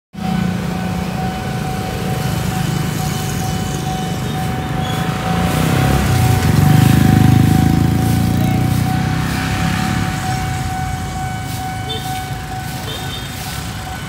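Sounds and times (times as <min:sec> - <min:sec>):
other motorbikes running: 0:00.2 - 0:14.0
steady high tone: 0:00.2 - 0:14.0.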